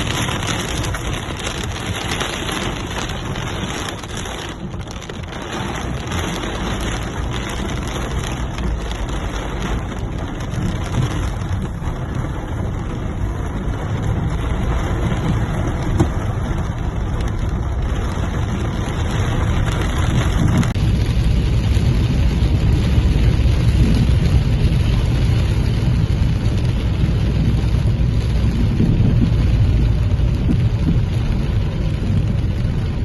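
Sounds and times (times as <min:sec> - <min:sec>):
heavy rain falling: 0:00.0 - 0:33.0
low rumble: 0:00.0 - 0:33.0.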